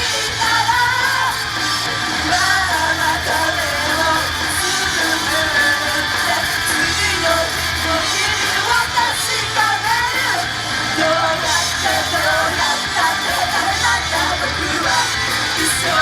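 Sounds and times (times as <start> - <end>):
people yelling: 0.0 - 16.0
person singing: 0.0 - 16.0
pop-rock band with guitars: 0.0 - 16.0.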